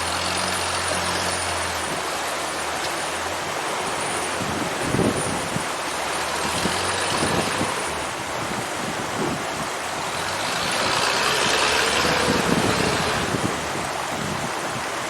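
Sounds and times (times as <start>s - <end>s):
heavy rushing noise: 0.0s - 15.0s
truck engine running: 0.0s - 15.0s.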